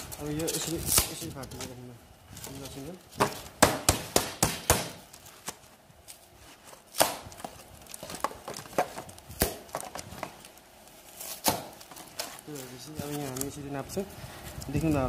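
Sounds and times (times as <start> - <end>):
foam panel cracking: 0.0 - 13.6.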